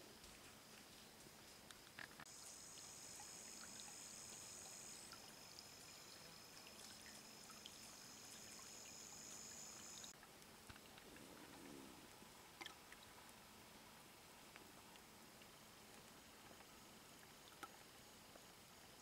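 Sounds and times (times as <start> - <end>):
soft hiss: 0.0 - 19.0.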